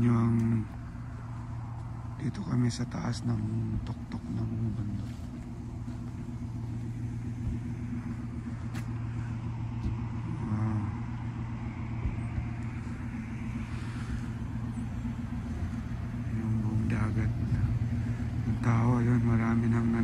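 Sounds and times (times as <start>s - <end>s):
engine running hum: 0.0s - 20.0s.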